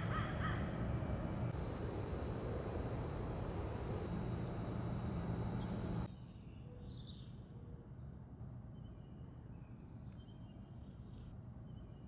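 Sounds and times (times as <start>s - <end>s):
faint birdsong: 0.0s - 12.0s
outdoor ambient hiss: 0.0s - 12.0s.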